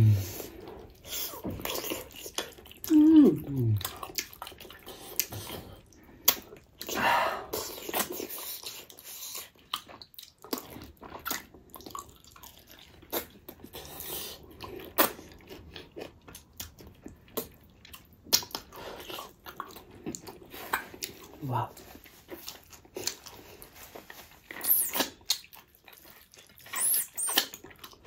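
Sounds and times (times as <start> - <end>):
chewing and lip-smacking: 0.0 - 28.0.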